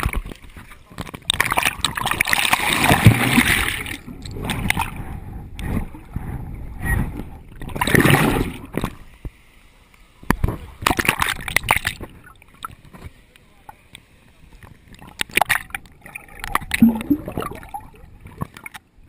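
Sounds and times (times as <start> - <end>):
water splashing and sloshing: 0.0 - 9.0, 10.8 - 13.2, 14.5 - 18.9.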